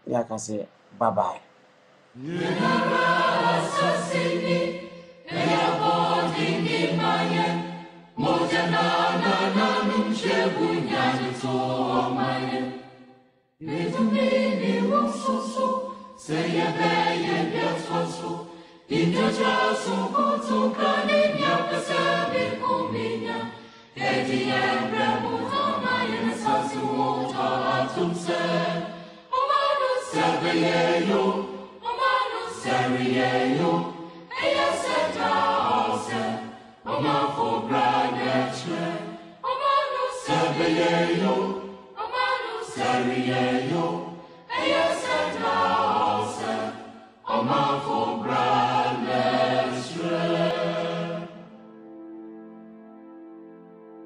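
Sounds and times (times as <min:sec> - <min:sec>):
choir singing: 0:02.2 - 0:54.0.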